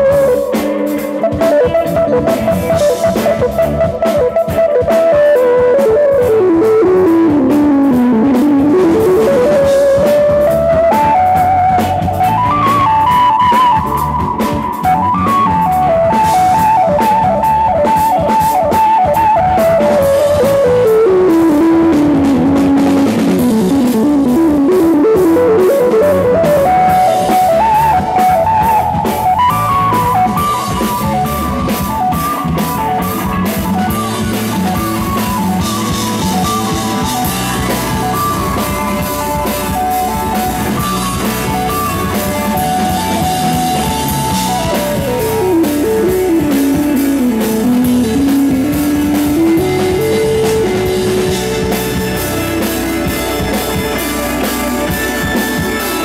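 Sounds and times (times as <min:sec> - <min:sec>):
lead guitar line: 0:00.0 - 0:56.0
rock band playing live: 0:00.0 - 0:56.0.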